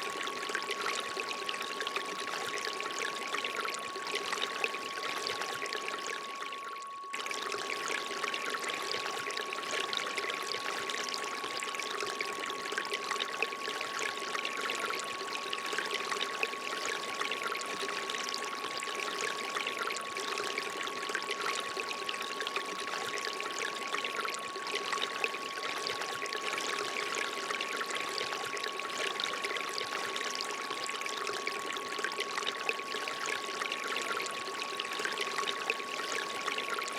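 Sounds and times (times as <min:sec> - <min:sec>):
thin steady pure tone: 0:00.0 - 0:36.9
water trickling from fountain spout: 0:00.1 - 0:36.9.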